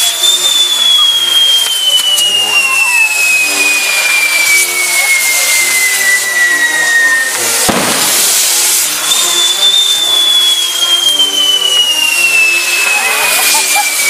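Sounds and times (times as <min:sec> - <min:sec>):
falling whistles: 0:00.0 - 0:14.0
fireworks hissing: 0:00.0 - 0:14.0.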